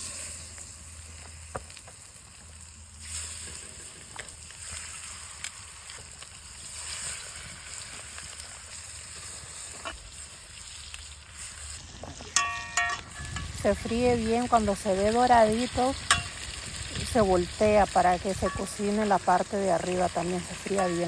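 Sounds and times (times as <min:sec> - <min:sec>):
chicken frying in oil: 0:00.0 - 0:21.0.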